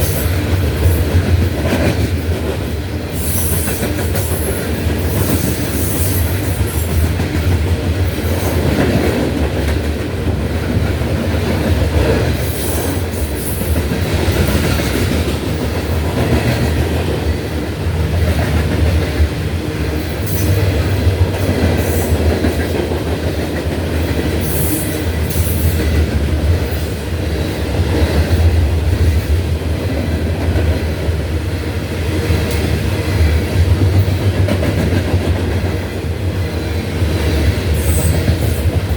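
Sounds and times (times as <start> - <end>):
train cars rumbling past: 0.0 - 38.9.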